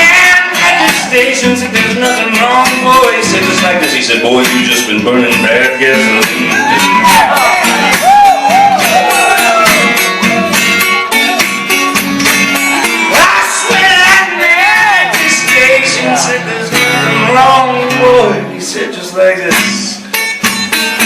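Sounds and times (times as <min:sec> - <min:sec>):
acoustic guitar strumming: 0:00.0 - 0:21.0
country band playing: 0:00.0 - 0:21.0
sliding lead guitar line: 0:00.0 - 0:21.0.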